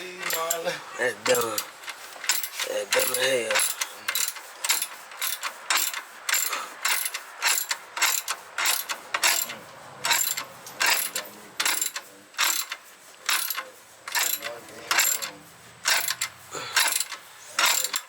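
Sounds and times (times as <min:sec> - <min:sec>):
ratchet wrench clicking: 0:00.2 - 0:18.0.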